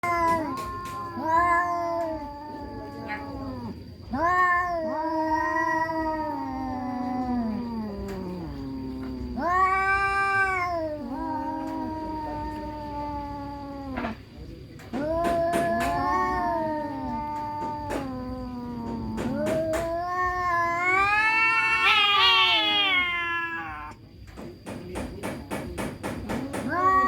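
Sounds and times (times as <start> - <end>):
cats yowling: 0.0 - 24.0, 26.3 - 27.0.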